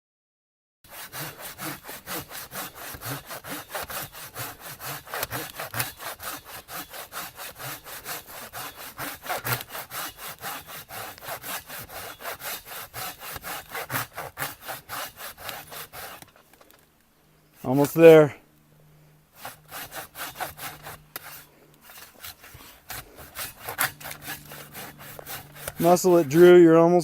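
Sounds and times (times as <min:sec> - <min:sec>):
hand saw cutting wood: 0:00.9 - 0:16.4, 0:17.6 - 0:18.2, 0:19.4 - 0:26.7.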